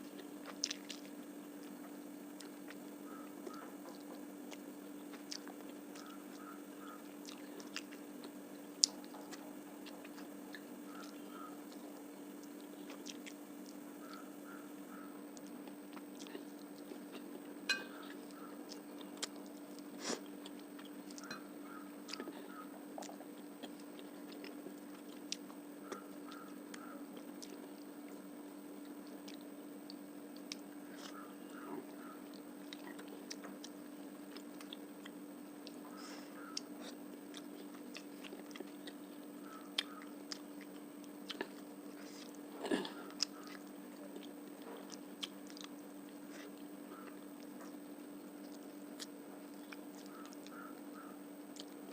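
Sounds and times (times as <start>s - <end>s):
person chewing food: 0.0s - 51.9s
steady low hum: 0.0s - 51.9s.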